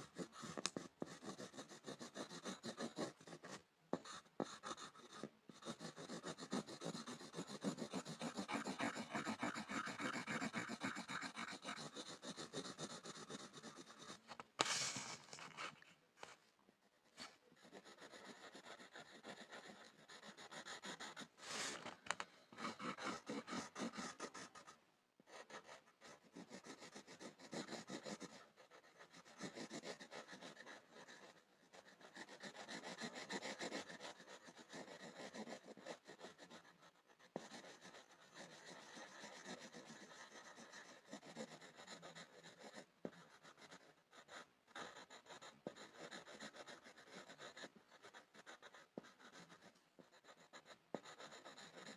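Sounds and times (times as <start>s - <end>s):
pencil scratching on a board: 0.0s - 16.4s, 17.0s - 51.9s.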